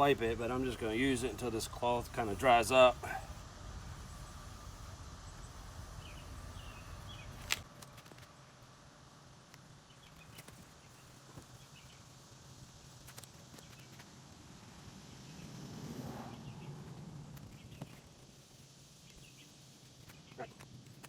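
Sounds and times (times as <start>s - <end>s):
low hum: 0.0s - 20.4s.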